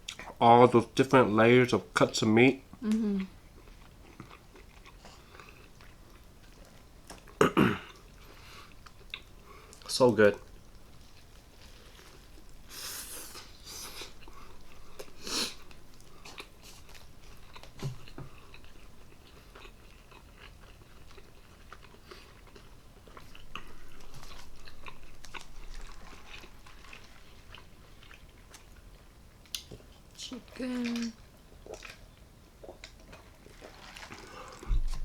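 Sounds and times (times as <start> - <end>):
chewing and biting sandwich: 3.3 - 30.0, 31.4 - 35.0.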